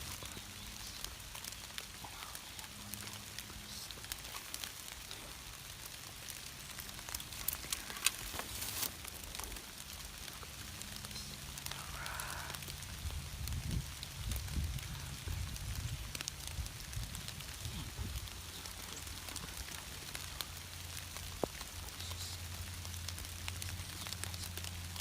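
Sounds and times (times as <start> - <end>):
raindrops tapping on leaves: 0.0 - 25.0.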